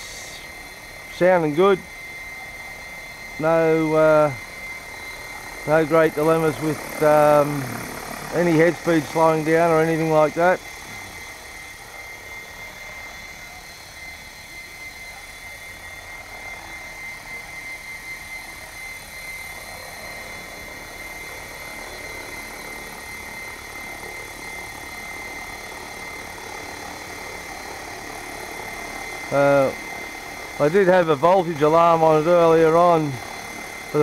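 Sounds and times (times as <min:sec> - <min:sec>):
rc helicopter rotor drone: 0:00.0 - 0:34.0.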